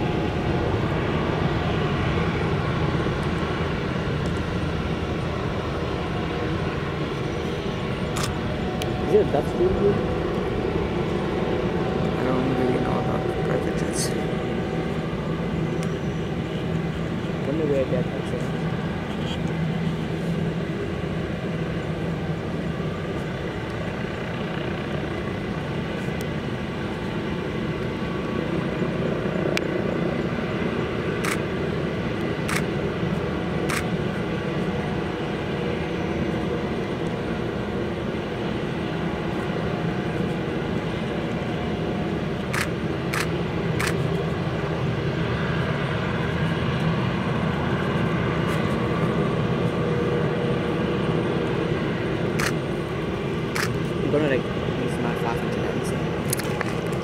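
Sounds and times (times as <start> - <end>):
distant airport traffic rumble: 0.0 - 57.0.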